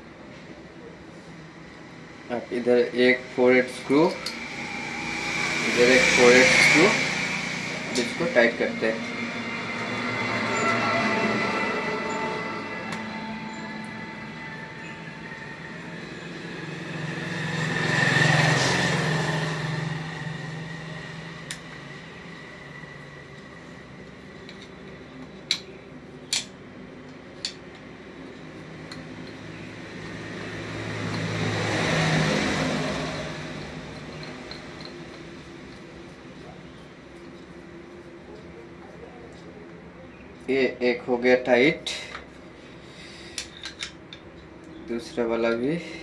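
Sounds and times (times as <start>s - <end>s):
vehicles passing by: 0.0s - 46.0s.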